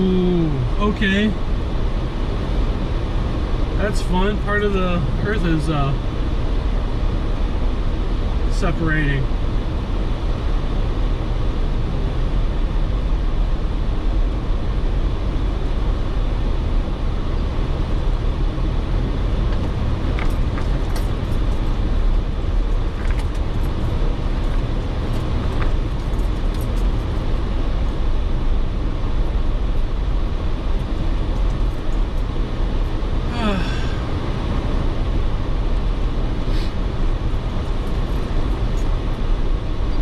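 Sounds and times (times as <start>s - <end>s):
off-road vehicle engine rumble: 0.0s - 40.0s.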